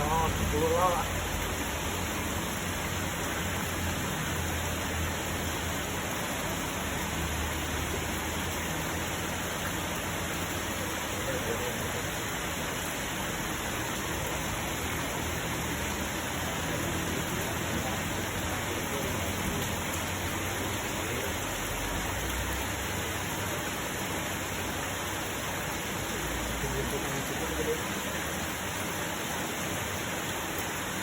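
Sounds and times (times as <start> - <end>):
steady water hiss: 0.0 - 31.0.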